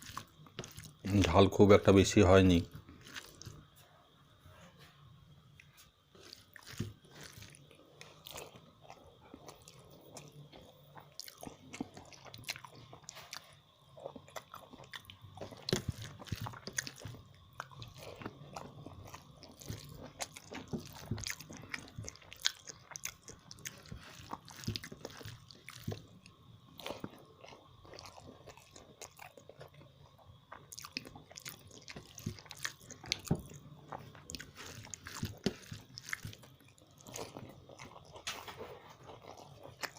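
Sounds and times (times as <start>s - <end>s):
person chewing with mouth smacks: 0.0s - 1.3s, 2.9s - 3.7s, 5.6s - 39.9s
crunchy bites: 0.0s - 3.6s, 6.2s - 26.2s, 26.8s - 29.8s, 30.4s - 39.9s.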